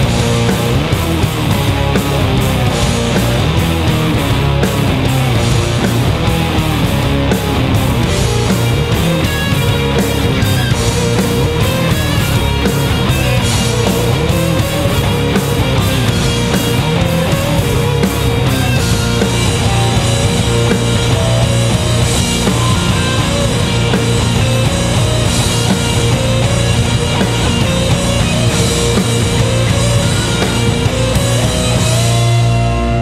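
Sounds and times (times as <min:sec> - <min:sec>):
drum kit: 0:00.0 - 0:33.0
electric guitar: 0:00.0 - 0:33.0
rock band playing live: 0:00.0 - 0:33.0.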